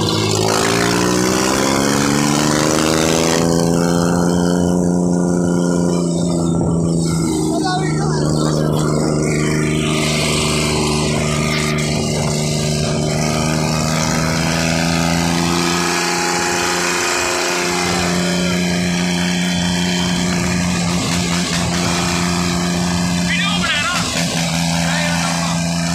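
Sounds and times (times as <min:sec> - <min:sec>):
motorcycle engine cruising: 0:00.0 - 0:25.9
road and wind noise: 0:00.0 - 0:25.9.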